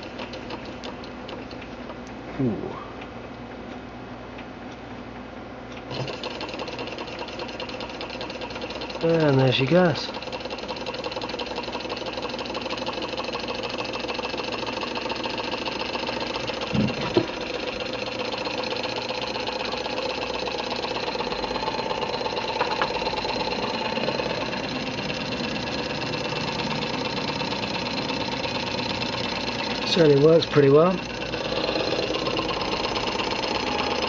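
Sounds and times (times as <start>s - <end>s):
stirling engine whirring: 5.9s - 34.0s.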